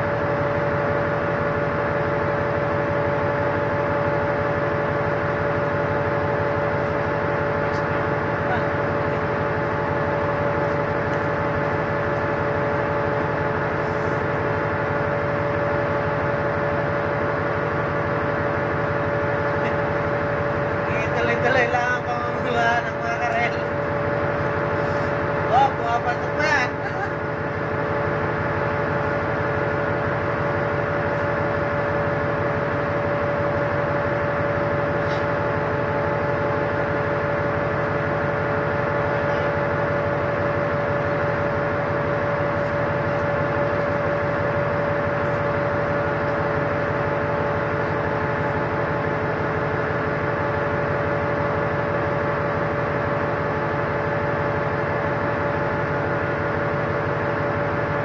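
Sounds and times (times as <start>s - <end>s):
ship machinery droning: 0.0s - 58.0s.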